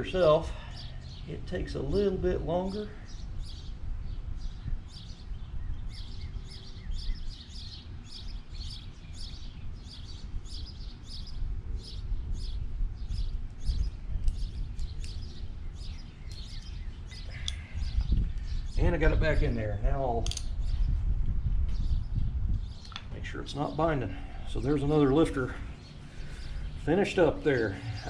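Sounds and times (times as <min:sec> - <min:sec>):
bird chirping: 0:00.0 - 0:21.0, 0:21.7 - 0:28.0
steady low rumble: 0:00.0 - 0:28.0.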